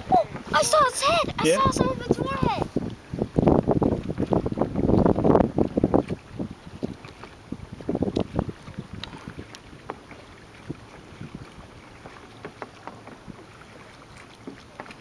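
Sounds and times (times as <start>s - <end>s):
water splashing around paddle: 1.8s - 15.0s.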